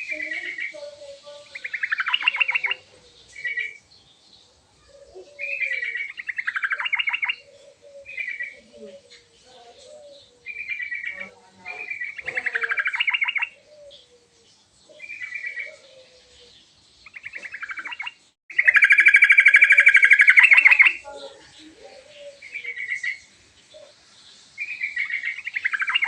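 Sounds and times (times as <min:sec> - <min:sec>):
bird song with rattling trills: 0:00.0 - 0:26.0.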